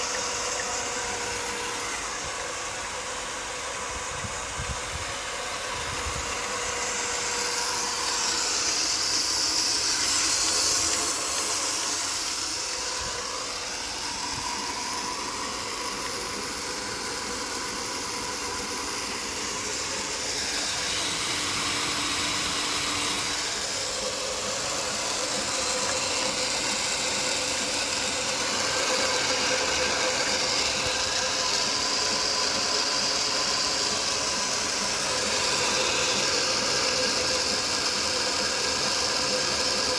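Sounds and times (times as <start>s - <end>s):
machine hum: 0.0s - 39.9s.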